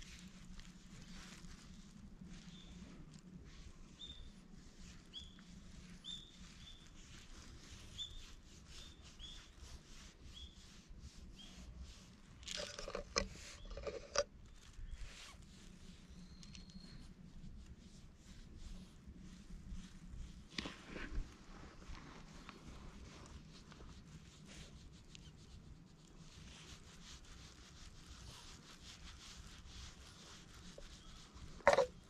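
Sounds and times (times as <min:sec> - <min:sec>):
hand stroking cat fur: 0:00.0 - 0:32.0.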